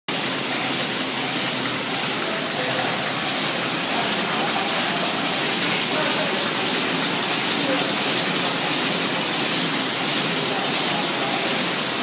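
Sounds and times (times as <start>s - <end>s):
folder-gluer machine running: 0.1s - 12.0s.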